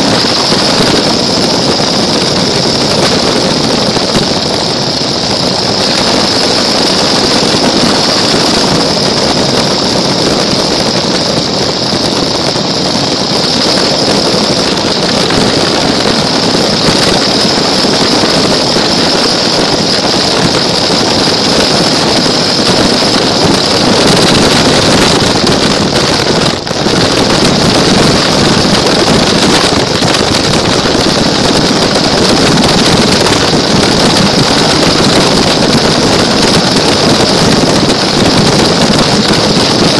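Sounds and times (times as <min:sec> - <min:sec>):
wheels rumbling: 0:00.0 - 0:39.9.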